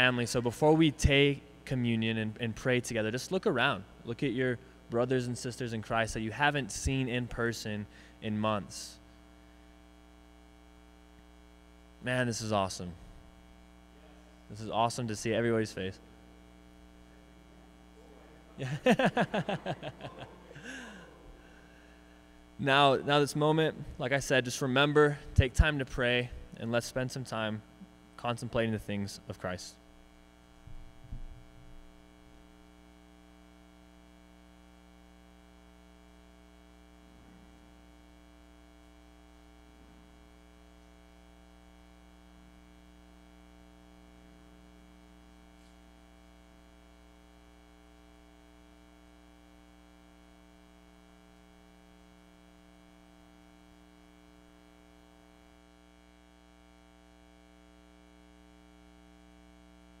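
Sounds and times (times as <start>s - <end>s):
electrical mains hum: 0.0s - 60.0s.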